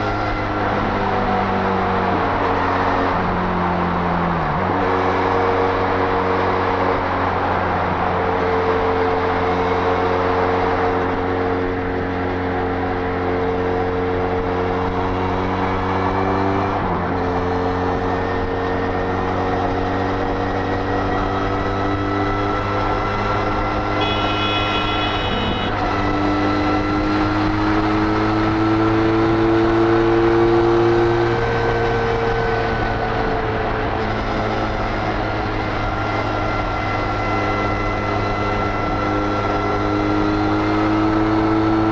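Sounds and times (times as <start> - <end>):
motorcycle engine at high revs: 8.0 - 41.9.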